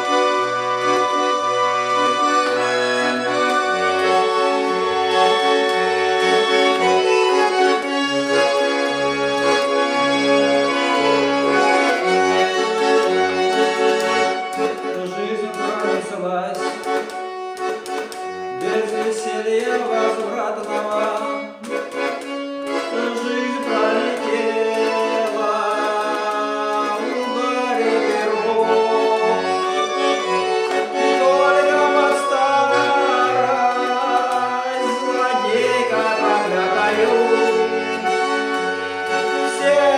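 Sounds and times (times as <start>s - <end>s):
accordion melody: 0.0s - 39.9s.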